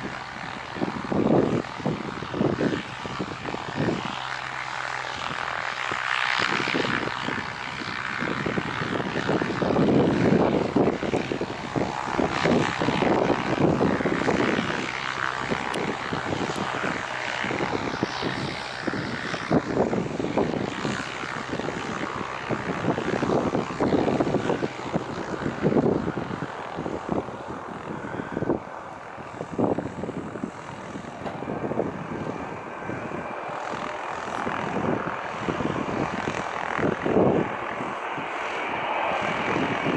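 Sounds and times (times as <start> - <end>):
jet engines running: 0.0 - 39.9
wind buffeting microphone: 0.0 - 39.9.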